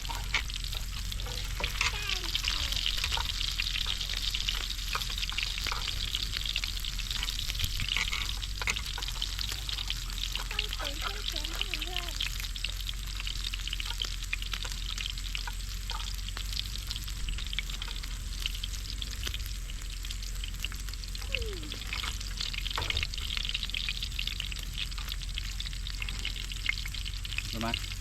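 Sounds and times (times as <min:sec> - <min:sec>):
egg sizzling in hot oil: 0:00.0 - 0:28.0.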